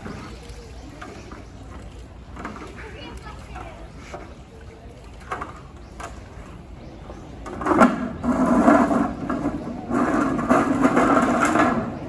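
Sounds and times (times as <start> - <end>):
plastic ball rolling on concrete: 0.0 - 12.0.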